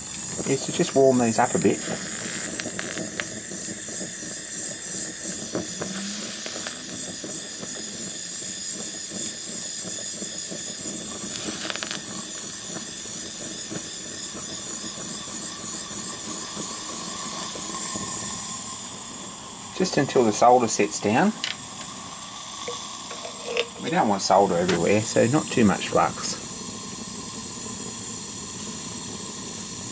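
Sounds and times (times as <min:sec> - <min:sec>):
gas torch flame hissing: 0:00.0 - 0:29.9.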